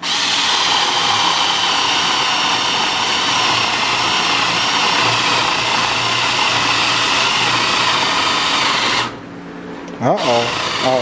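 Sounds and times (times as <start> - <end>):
cordless drill boring: 0.0 - 9.2, 10.2 - 11.0.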